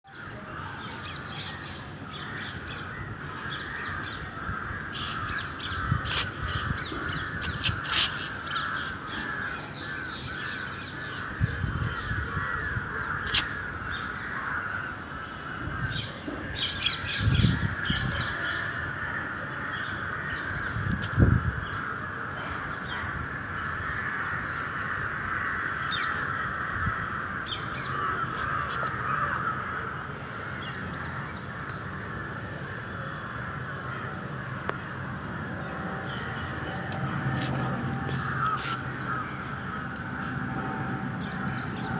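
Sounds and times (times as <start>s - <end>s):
insect raspy buzz: 0.1s - 41.9s.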